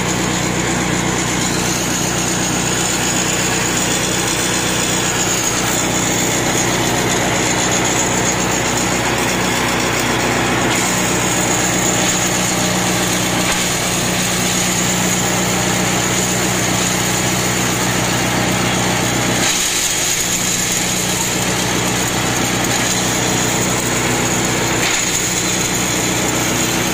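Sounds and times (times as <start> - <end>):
feed chopper whine: 0.0 - 26.9
small petrol engine running: 0.0 - 26.9.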